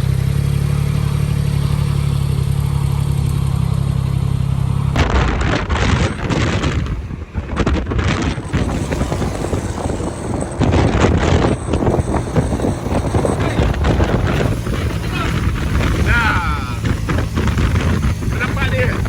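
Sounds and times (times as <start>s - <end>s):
motorcycle engine and road noise: 0.0s - 19.0s
wind buffeting microphone: 2.0s - 19.0s.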